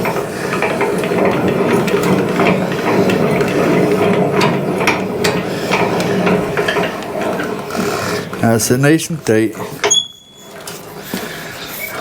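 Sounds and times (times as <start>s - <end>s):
metal clicking and rattling: 0.0s - 12.0s.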